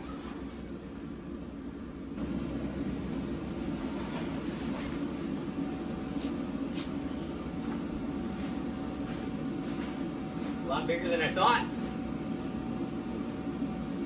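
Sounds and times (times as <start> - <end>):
inflation blower running: 2.2 - 14.0.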